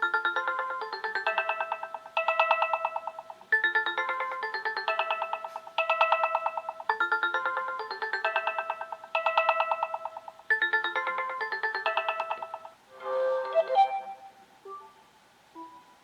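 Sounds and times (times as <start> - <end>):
electronic phone ringtone: 0.0 - 14.4.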